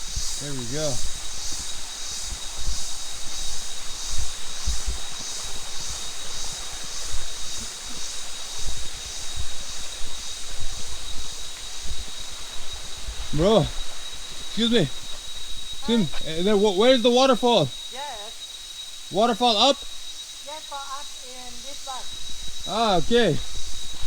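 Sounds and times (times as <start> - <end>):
cicadas ringing: 0.0 - 24.0.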